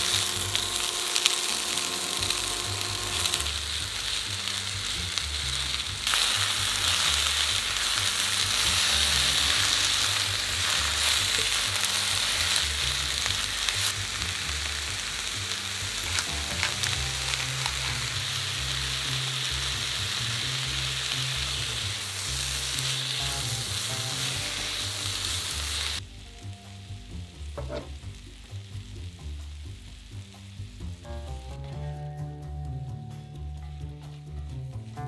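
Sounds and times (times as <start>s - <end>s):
vegetables sizzling in a skillet: 0.0s - 32.2s
background music with bass line: 0.0s - 35.0s.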